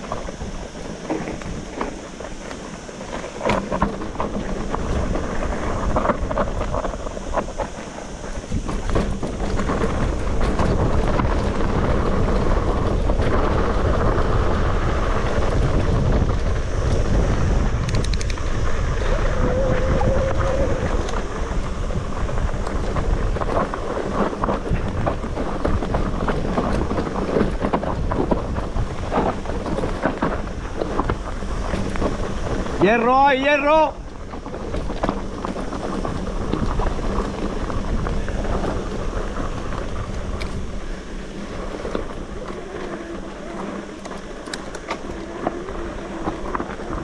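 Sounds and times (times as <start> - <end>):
bike knocks and rattles: 0.0 - 47.0
wind rushing over microphone: 0.0 - 47.0.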